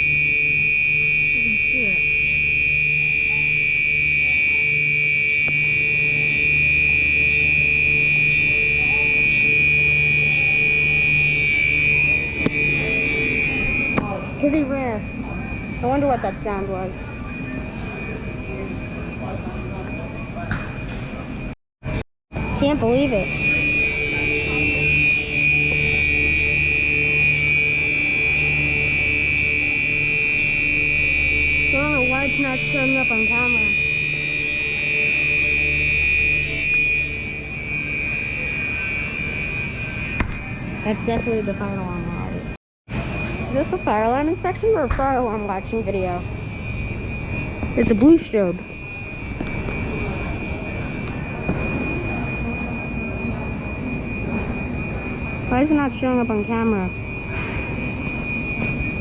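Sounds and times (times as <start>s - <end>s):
fire alarm horn steady tone: 0.0s - 59.0s
low hum: 0.0s - 59.0s.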